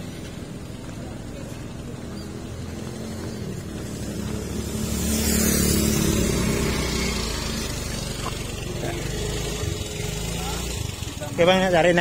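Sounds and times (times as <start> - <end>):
motorbike passing by: 0.0 - 12.0.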